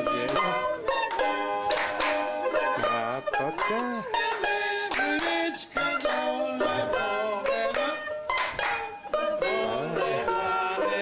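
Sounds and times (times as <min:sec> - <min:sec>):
banjo playing: 0:00.0 - 0:11.0.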